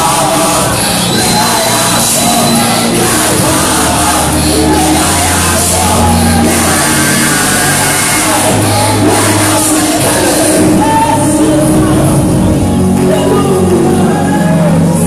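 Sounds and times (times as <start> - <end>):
congregation singing: 0.0 - 15.0
deep bass line: 0.0 - 15.0
worship band playing: 0.0 - 15.0.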